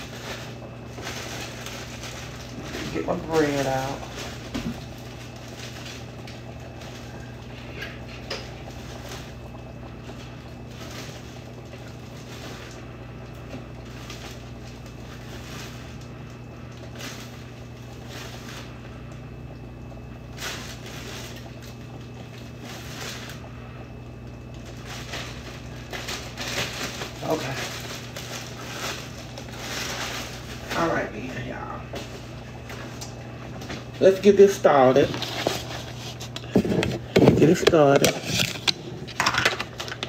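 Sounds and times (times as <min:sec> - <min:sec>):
bread bag rustling: 0:00.0 - 0:19.0, 0:20.0 - 0:23.5, 0:24.1 - 0:40.0
steady low hum: 0:00.0 - 0:40.0.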